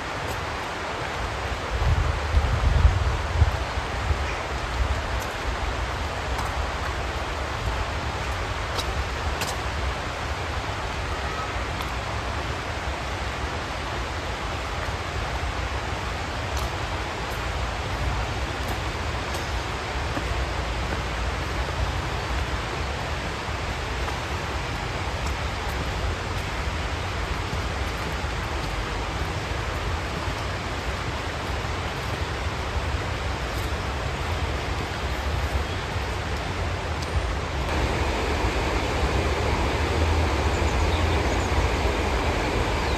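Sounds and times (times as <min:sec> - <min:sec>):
rain hiss: 0:00.0 - 0:42.9.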